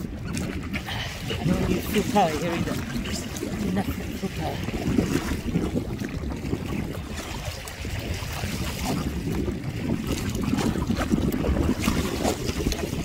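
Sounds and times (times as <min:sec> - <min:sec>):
water splashing against kayak: 0:00.0 - 0:13.0
wind buffeting microphone: 0:00.0 - 0:13.0.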